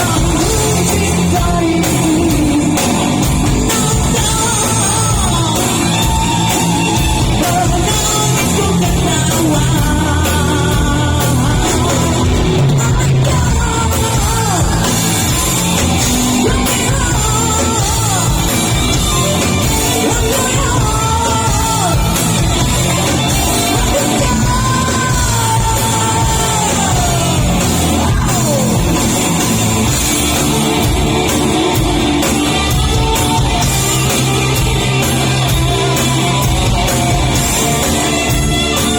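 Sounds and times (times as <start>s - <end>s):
live rock band: 0.0s - 38.9s
man singing rock: 0.0s - 38.9s.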